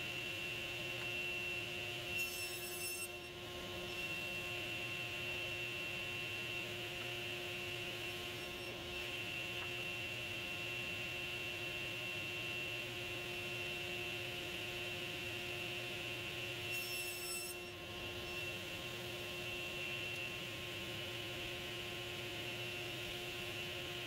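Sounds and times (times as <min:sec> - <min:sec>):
table saw motor whine: 0:00.0 - 0:24.0.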